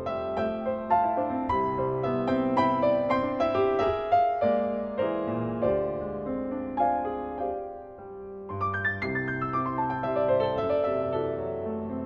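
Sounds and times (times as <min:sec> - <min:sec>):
solo classical piano: 0:00.0 - 0:12.0.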